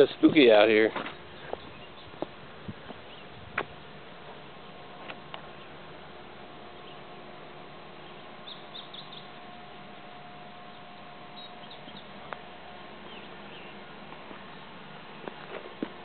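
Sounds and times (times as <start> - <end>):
small birds chirping: 0.0 - 5.9, 6.6 - 16.0
steady background hiss: 0.0 - 16.0.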